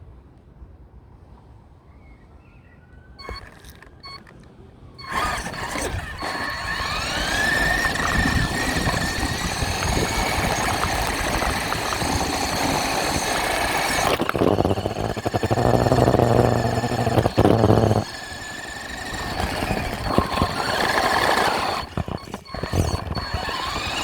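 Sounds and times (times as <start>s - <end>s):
toy truck motor whining: 3.2s - 24.0s.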